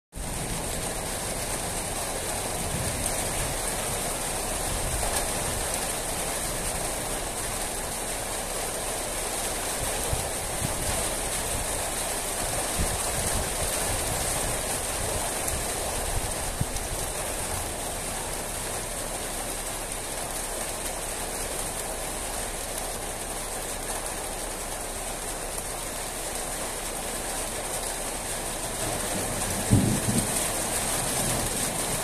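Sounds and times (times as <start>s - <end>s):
sharp rain taps: 0.1s - 32.0s
steady rain falling: 0.1s - 32.0s.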